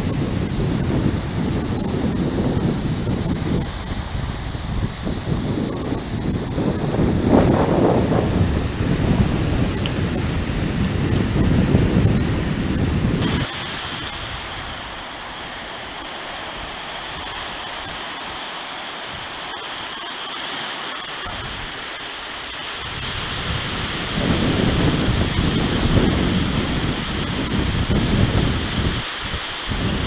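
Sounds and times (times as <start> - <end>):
wind buffeting the microphone: 0.0 - 18.4, 21.2 - 30.0
waves washing onto sandy shore: 0.0 - 30.0.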